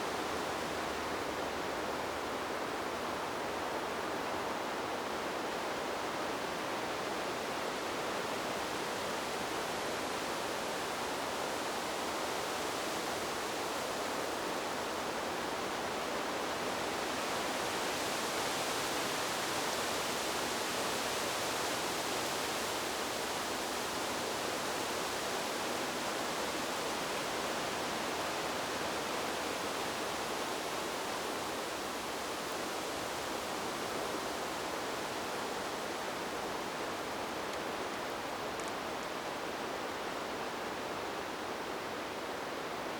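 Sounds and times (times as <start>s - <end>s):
wind rushing through trees: 0.0s - 42.9s.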